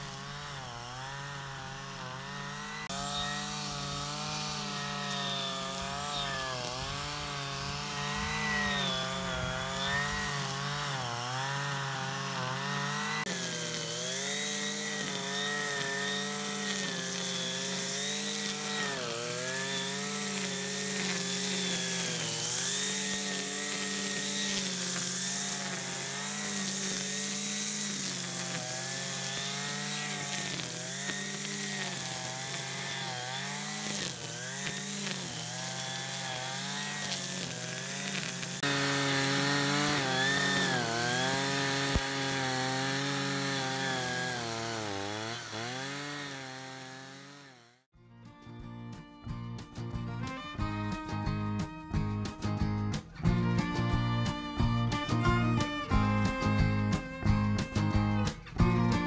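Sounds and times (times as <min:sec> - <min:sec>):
brush cutter engine running: 0:00.0 - 0:47.9, 0:52.9 - 0:59.0.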